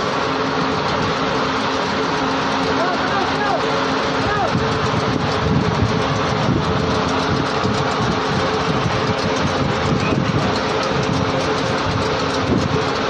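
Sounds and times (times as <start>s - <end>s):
ship's machinery humming: 0.0s - 13.0s.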